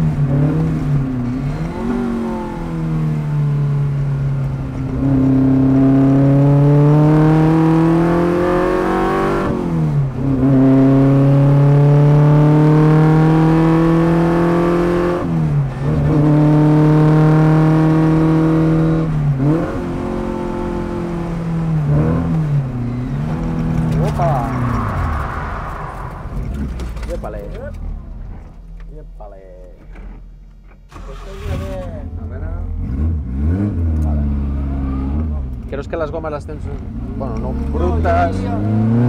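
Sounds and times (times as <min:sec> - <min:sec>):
racing car engine through gears: 0:00.0 - 0:29.0, 0:29.8 - 0:39.0.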